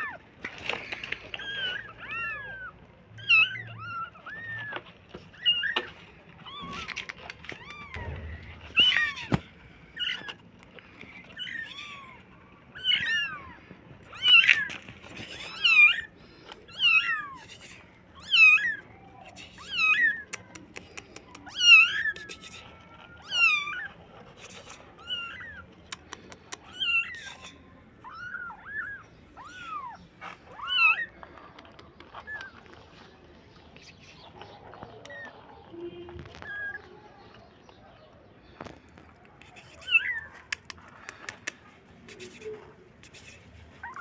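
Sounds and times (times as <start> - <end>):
kittens mewing: 0.0 - 33.0, 39.1 - 44.0.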